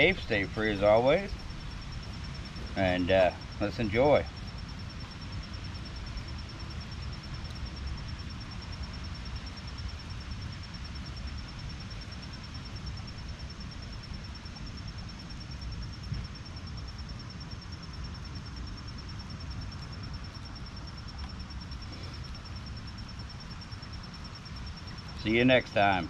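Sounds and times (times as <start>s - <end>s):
constant hiss: 0.0s - 26.0s
insect trilling: 0.0s - 26.0s.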